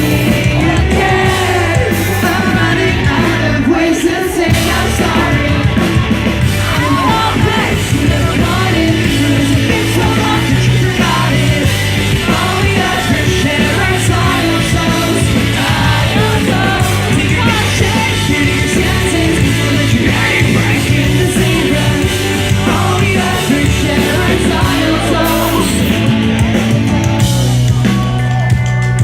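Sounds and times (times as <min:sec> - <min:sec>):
person singing lead vocals: 0:00.0 - 0:29.0
pop-punk band playing live: 0:00.0 - 0:29.0.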